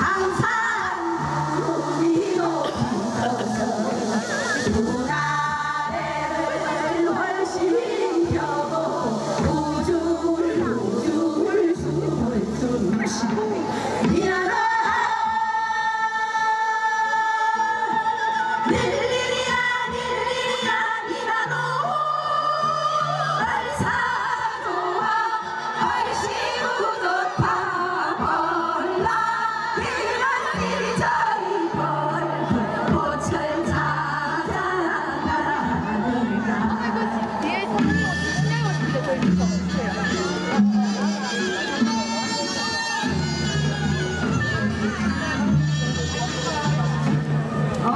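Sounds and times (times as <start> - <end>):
women singing folk song: 0.0 - 38.5
instrumental accompaniment: 0.0 - 47.9.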